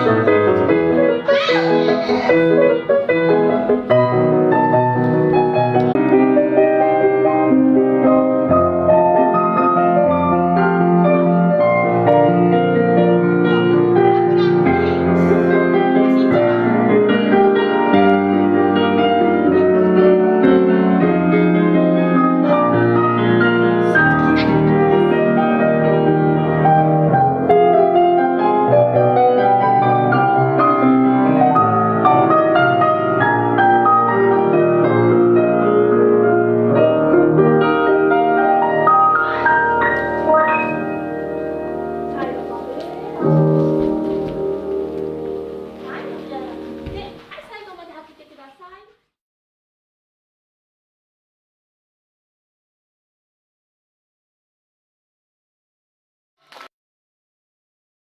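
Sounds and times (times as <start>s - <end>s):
piano music: 0.0s - 47.6s.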